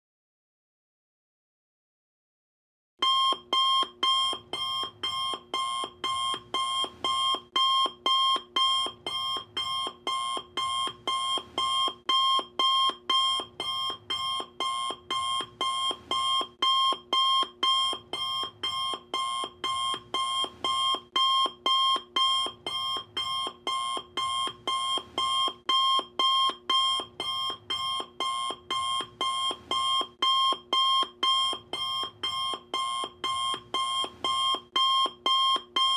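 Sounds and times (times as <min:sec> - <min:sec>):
alarm clock beeping: 0:03.0 - 0:35.9.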